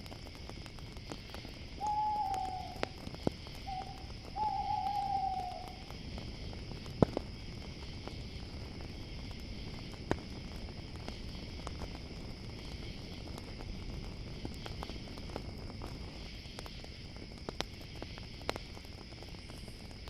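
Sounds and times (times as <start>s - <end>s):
campfire crackling and popping: 0.0s - 20.0s
crickets chirring: 0.0s - 20.0s.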